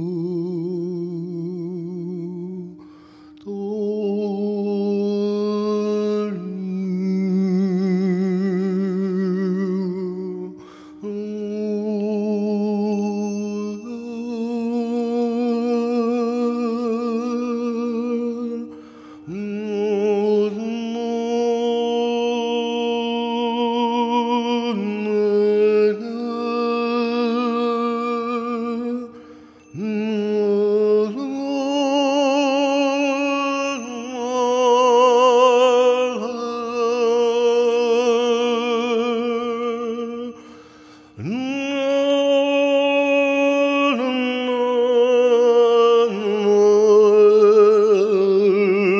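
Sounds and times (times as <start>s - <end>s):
person singing long notes with vibrato: 0.0s - 48.9s.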